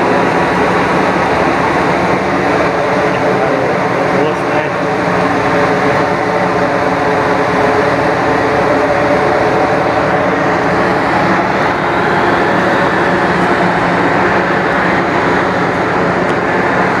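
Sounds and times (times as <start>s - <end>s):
ship machinery drone: 0.0s - 17.0s.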